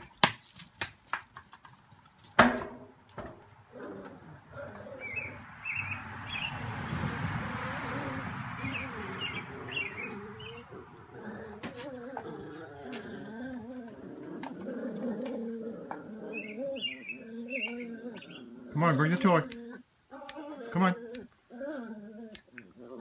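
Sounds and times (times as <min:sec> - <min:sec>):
birds chirping: 0:00.0 - 0:00.9, 0:03.2 - 0:23.0.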